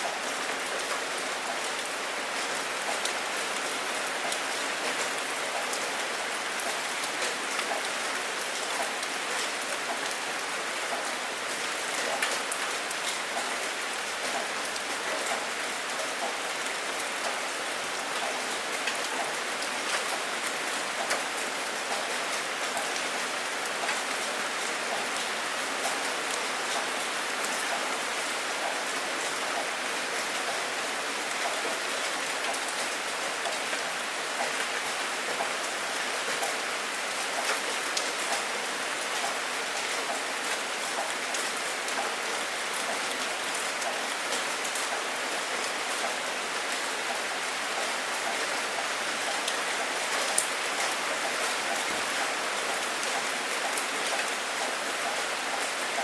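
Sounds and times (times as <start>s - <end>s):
rain with drops ticking: 0.0s - 56.0s.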